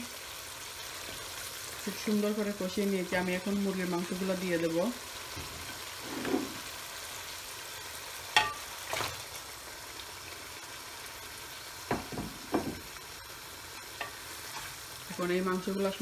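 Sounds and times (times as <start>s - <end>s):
spices sizzling in a pan: 0.0s - 16.0s.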